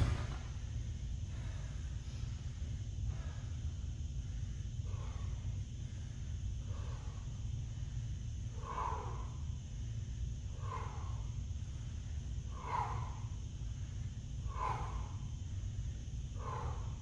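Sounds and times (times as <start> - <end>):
man breathing forcefully: 0.0 - 17.0
steady low hum: 0.0 - 17.0.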